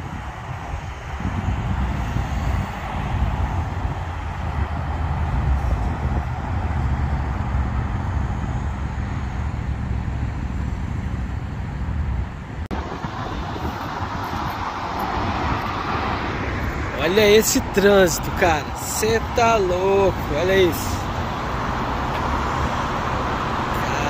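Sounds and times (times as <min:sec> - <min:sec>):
road traffic noise: 0:00.0 - 0:24.0
wind rumble on microphone: 0:00.0 - 0:24.0.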